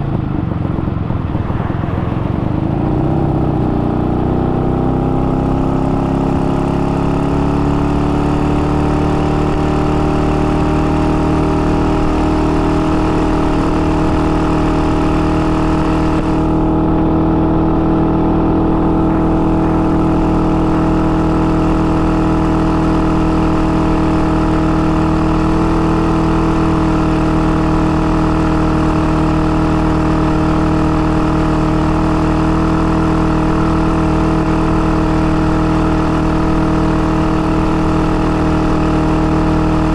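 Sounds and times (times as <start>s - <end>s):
two-stroke motorcycle engine running: 2.3s - 39.9s.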